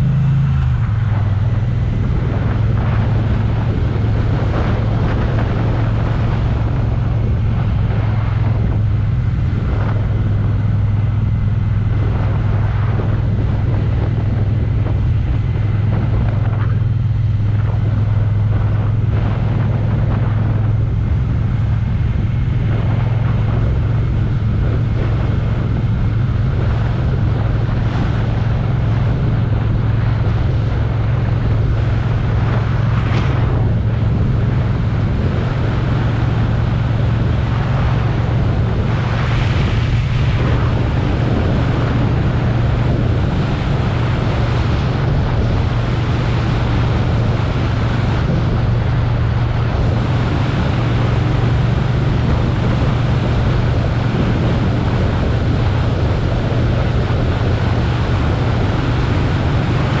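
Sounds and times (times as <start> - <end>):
motorcycle engine cruising: 0.0 - 60.0
wind over microphone: 0.0 - 60.0.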